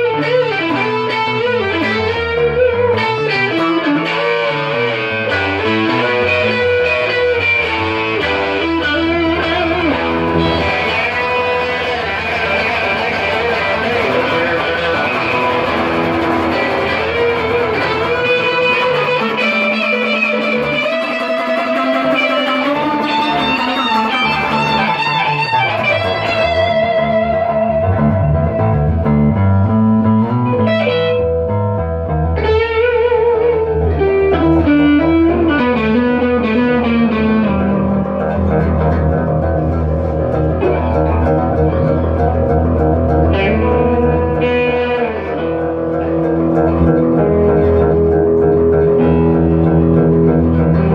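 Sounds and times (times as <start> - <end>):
bass line: 0.0 - 50.9
electric guitar melody: 0.0 - 50.9.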